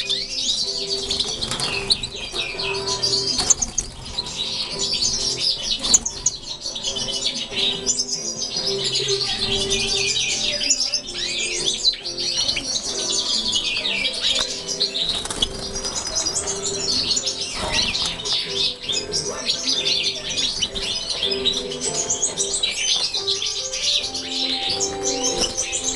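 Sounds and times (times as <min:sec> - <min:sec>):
finches twittering and singing: 0:00.0 - 0:25.9.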